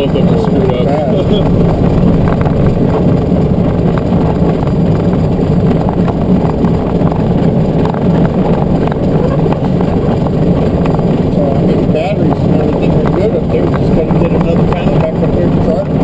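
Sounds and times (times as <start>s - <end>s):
vehicle rumbling on dirt road: 0.0s - 16.0s.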